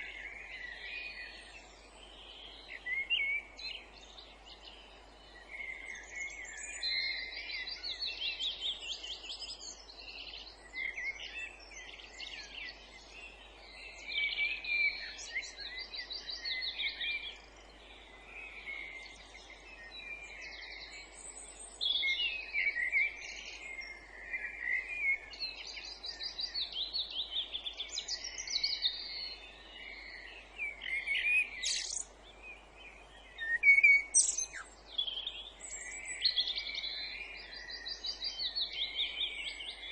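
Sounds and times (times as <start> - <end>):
faint background hiss: 0.0 - 39.9
songbirds singing in chorus: 0.0 - 39.9.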